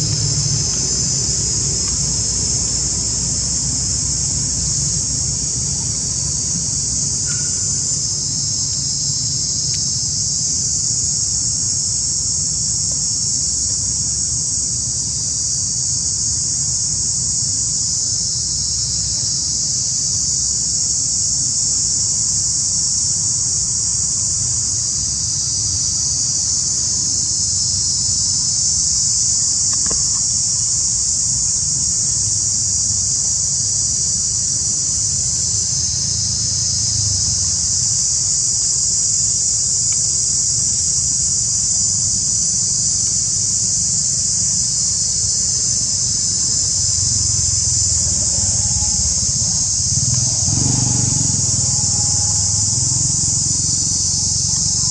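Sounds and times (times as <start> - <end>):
insects buzzing: 0.0 - 54.9.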